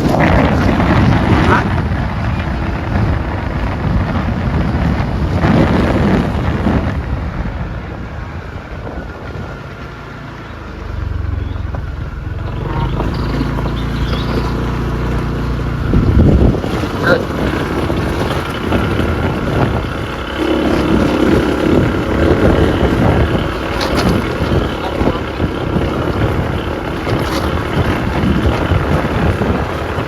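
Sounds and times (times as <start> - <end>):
low steady rumble: 0.0 - 30.0
wind buffeting microphone: 0.0 - 30.0.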